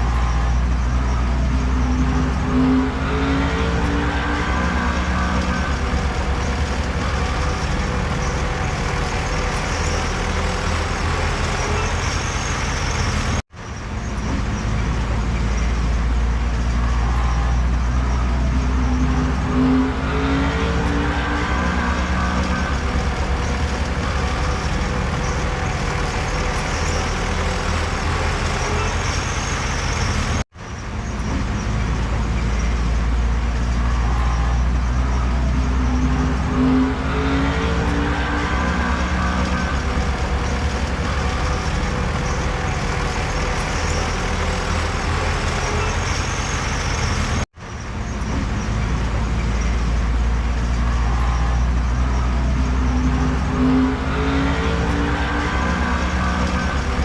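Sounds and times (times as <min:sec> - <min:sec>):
heavy diesel machinery rumbling: 0:00.0 - 0:57.0.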